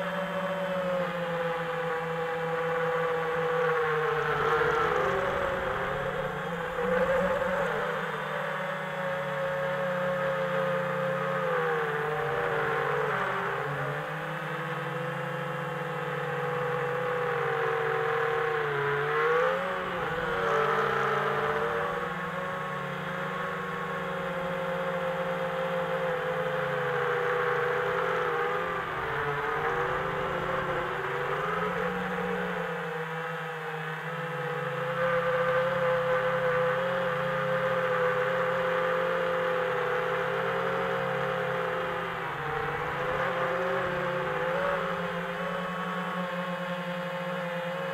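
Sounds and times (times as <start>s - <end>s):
drone motors whining: 0.2s - 47.9s.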